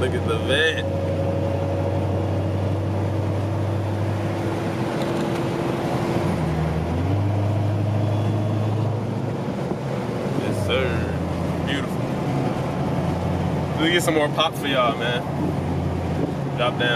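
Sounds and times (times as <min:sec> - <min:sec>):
car engine drone from cabin: 0:00.0 - 0:16.9.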